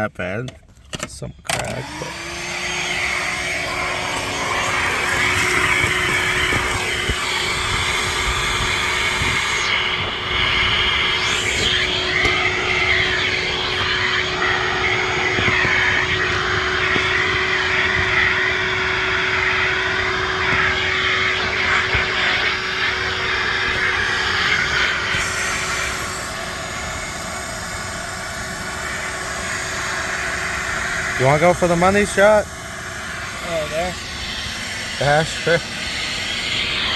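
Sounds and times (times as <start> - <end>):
electric motor with air rush: 1.5 - 36.9.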